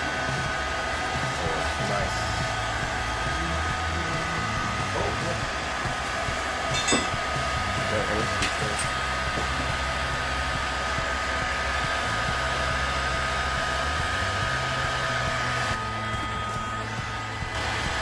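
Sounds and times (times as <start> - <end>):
hot air gun blowing: 0.0 - 18.0.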